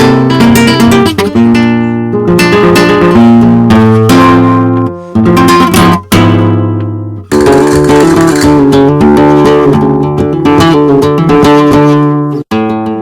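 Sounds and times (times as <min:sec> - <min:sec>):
flamenco acoustic guitar strumming: 0:00.0 - 0:13.0.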